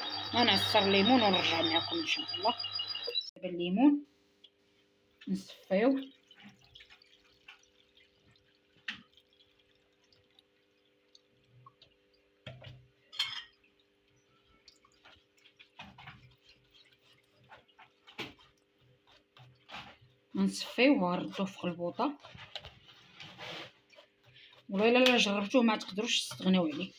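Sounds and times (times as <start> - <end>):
juice dripping: 0.0 - 3.3, 4.4 - 26.9.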